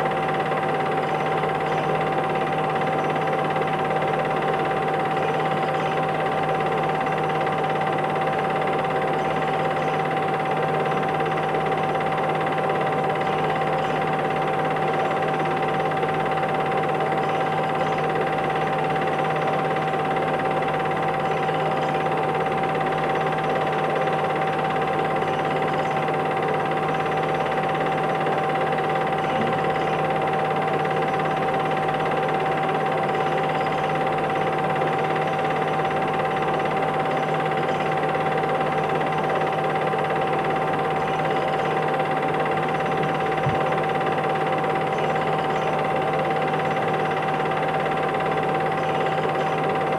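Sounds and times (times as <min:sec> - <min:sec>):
constant whine: 0:00.0 - 0:49.9
mechanical hum and hiss: 0:00.0 - 0:49.9.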